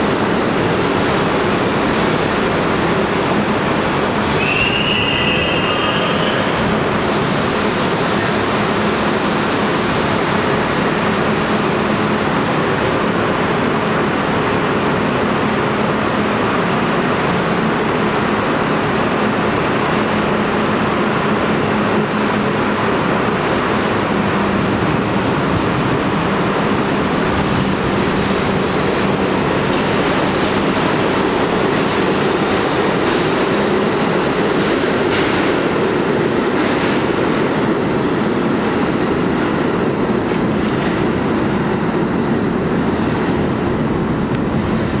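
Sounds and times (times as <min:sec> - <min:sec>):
subway train rumble: 0:00.0 - 0:45.0.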